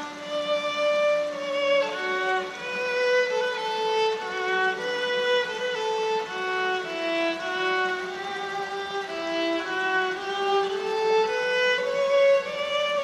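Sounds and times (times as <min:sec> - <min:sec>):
solo violin melody: 0:00.0 - 0:13.0.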